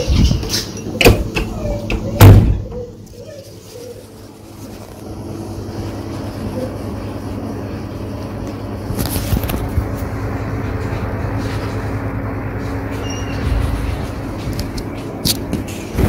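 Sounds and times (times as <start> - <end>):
exhaust fan whirring: 0.0 - 16.0.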